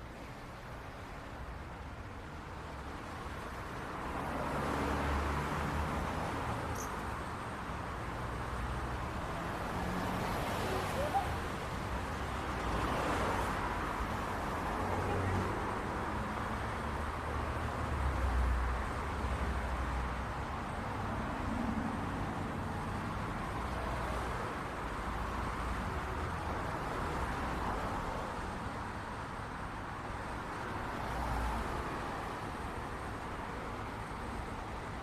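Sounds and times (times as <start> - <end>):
passing cars and tyre noise: 0.0 - 35.0.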